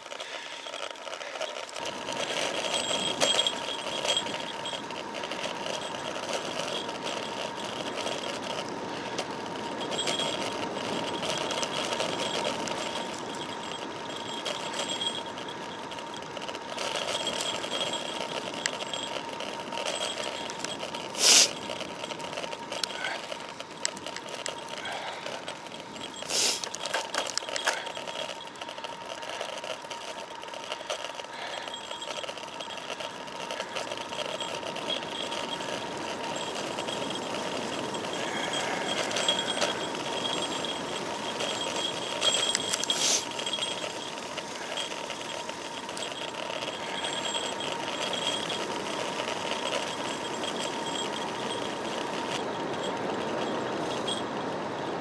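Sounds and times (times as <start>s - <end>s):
bicycle tyre and wind noise: 0.0s - 55.0s
fine rattle: 0.0s - 55.0s
thin steady whine: 0.0s - 55.0s.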